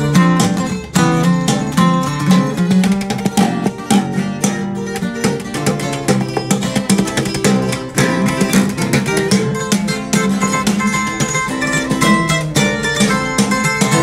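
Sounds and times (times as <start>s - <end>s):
acoustic guitars plucked: 0.0s - 14.0s.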